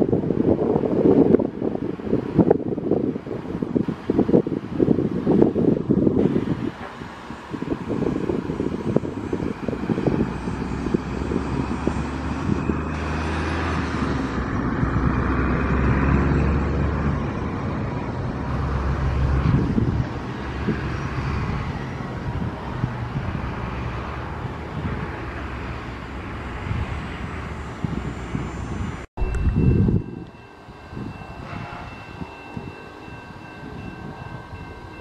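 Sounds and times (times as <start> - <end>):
large engine droning: 5.6 - 35.0.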